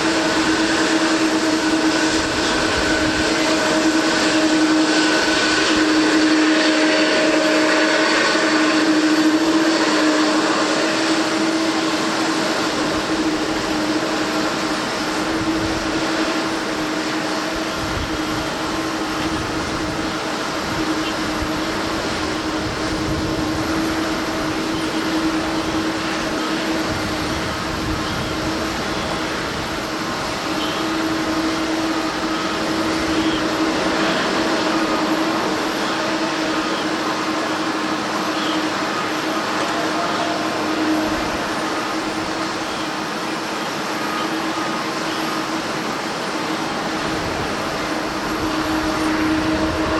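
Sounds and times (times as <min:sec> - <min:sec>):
broad rush: 0:00.0 - 0:49.9
jet engines whining: 0:00.0 - 0:49.9.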